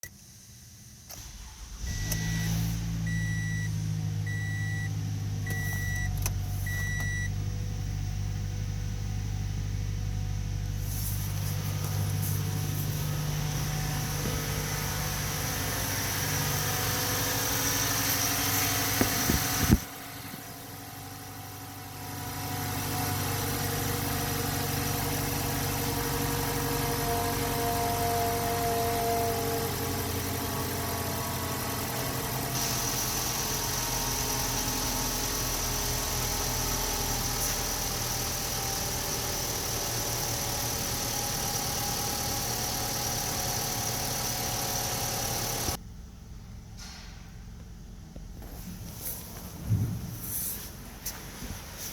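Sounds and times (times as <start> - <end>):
car engine idling: 0.6 - 51.9.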